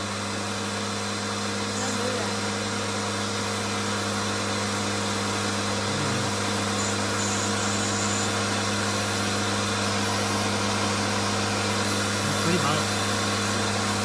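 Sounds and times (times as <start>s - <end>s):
pressure washer motor hum: 0.0s - 14.0s.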